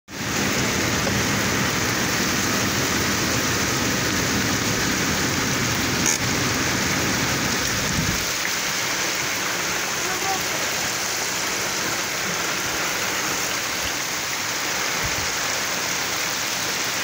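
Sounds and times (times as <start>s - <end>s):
heavy rain pouring: 0.1s - 17.0s.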